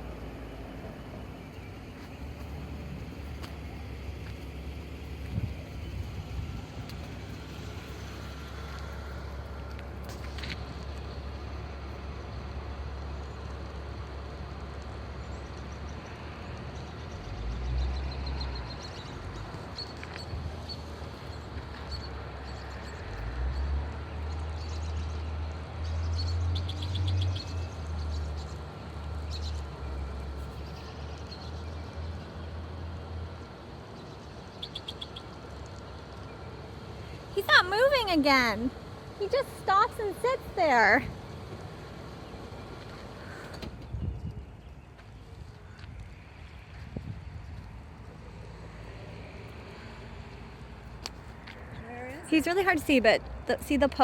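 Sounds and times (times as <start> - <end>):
vehicle idling: 0.0 - 54.0.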